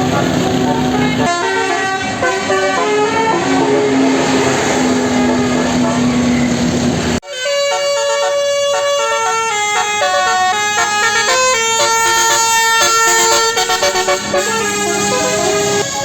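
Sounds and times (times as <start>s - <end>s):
musical bus horn melody: 0.0s - 16.0s.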